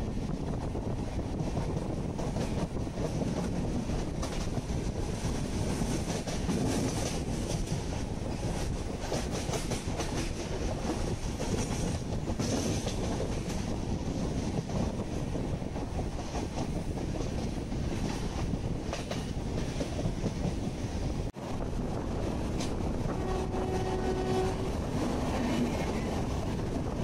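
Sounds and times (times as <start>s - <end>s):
train clicks and rattles: 0.0s - 27.0s
train wheels rumbling on rails: 0.0s - 27.0s.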